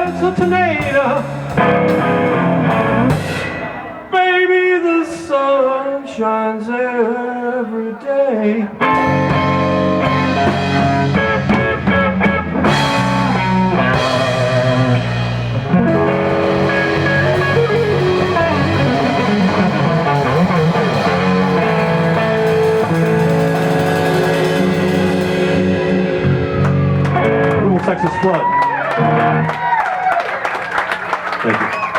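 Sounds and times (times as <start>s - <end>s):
bass guitar: 0.0s - 4.2s, 8.7s - 30.2s
electric guitar lead: 0.0s - 4.2s, 8.7s - 30.2s.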